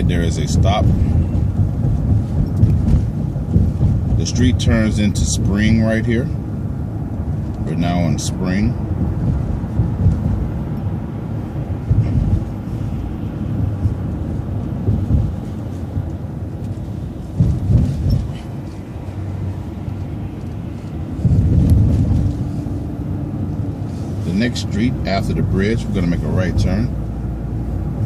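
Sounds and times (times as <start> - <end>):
bus bumps: 0.0 - 28.0
bus engine and road rumble: 0.0 - 28.0.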